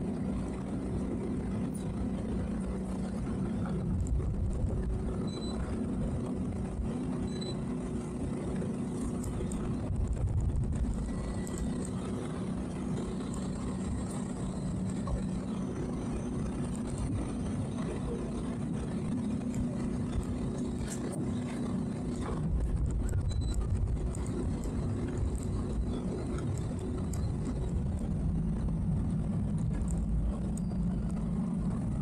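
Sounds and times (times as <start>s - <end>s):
boat engine low hum: 0.0s - 32.0s.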